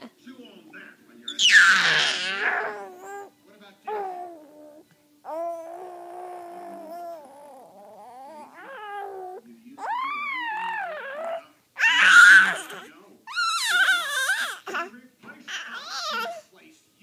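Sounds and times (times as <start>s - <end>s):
baby squealing: 1.3s - 3.3s, 3.9s - 14.9s, 15.5s - 16.4s
baby vocalizing: 1.3s - 3.3s, 3.9s - 14.9s, 15.5s - 16.4s.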